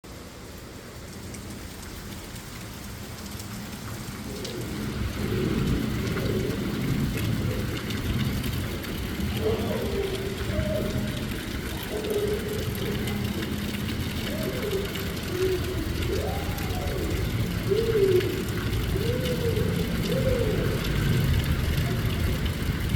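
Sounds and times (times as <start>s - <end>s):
rain falling: 0.0s - 22.9s.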